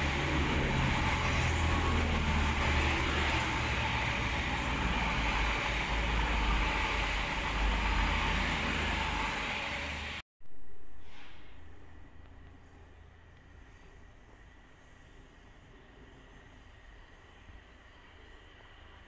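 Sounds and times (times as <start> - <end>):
diesel train engine drone: 0.0 - 10.2, 11.0 - 19.0
wheels rushing on rail: 0.0 - 10.2, 11.0 - 19.0.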